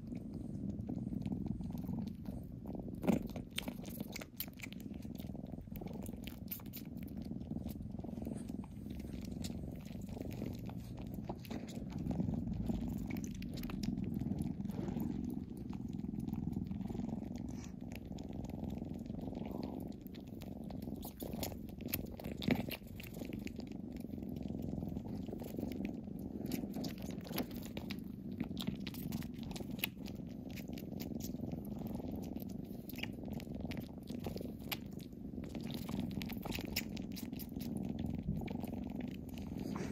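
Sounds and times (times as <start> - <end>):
kittens purring: 0.0 - 39.9.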